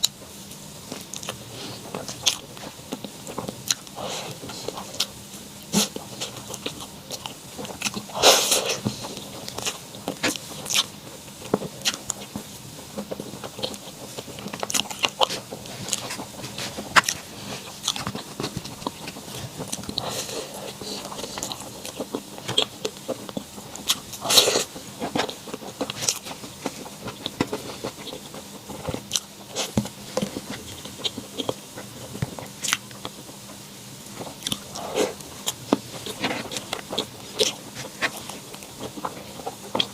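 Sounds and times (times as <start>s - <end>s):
wet chewing clicks: 0.9s - 39.9s.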